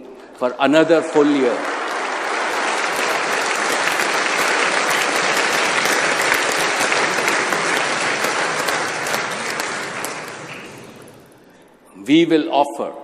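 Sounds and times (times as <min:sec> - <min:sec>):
large audience applauding: 0:00.7 - 0:11.5.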